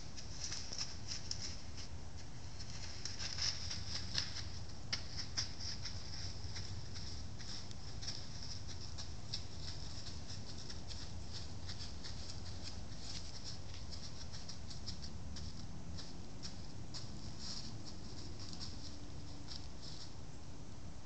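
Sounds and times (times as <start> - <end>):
dry leaves rustling: 0.0 - 20.4
low steady rumble: 0.0 - 21.0.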